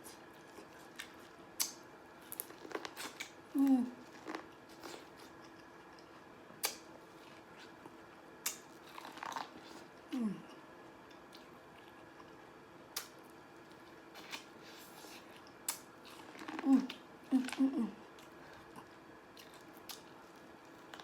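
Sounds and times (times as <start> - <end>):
person eating corn on the cob: 0.0 - 10.0, 11.1 - 21.0.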